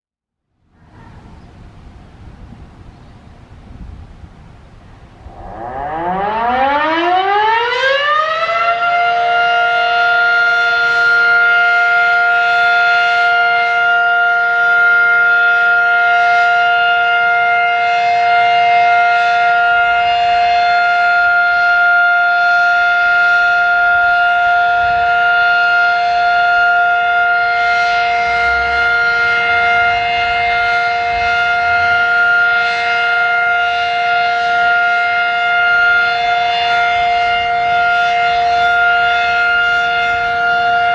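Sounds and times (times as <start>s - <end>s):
warning siren winding up: 5.2s - 40.9s.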